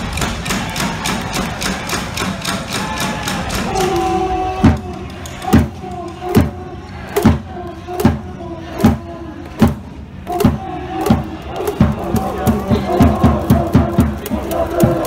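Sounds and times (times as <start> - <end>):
voices: 0.0 - 15.0.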